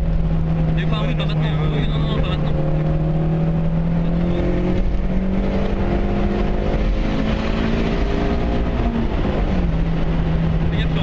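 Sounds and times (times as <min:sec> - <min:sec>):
car engine cruising: 0:00.0 - 0:11.0.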